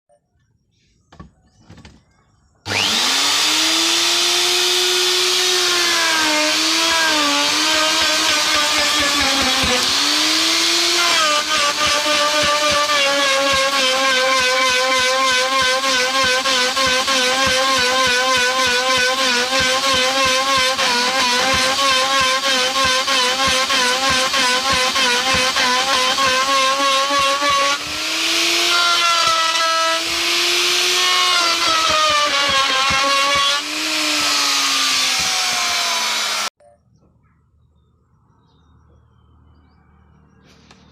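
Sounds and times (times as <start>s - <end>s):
electric router cutting wood: 2.7s - 36.6s.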